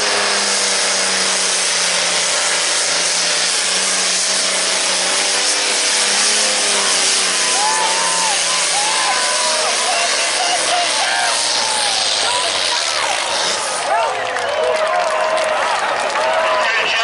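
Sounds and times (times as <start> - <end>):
tractor diesel engine at full load: 0.0 - 17.0.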